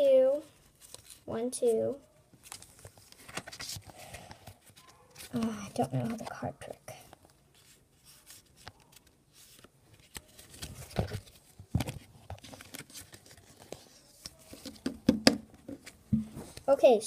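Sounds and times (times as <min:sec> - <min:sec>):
trading cards being handled: 0:00.7 - 0:01.3, 0:02.4 - 0:16.7.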